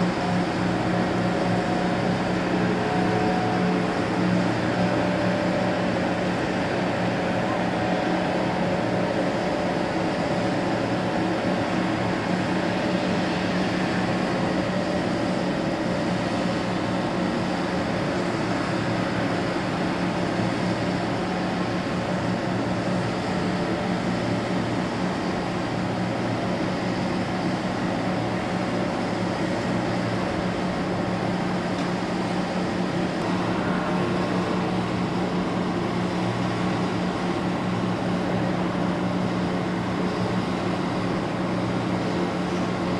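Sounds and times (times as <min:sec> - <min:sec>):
diesel boat engines droning: 0:00.0 - 0:42.9.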